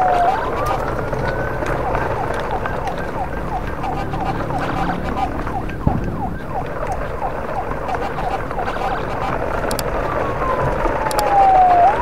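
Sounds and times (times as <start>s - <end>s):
low rumble: 0.0s - 11.2s
siren yelping: 0.0s - 12.0s.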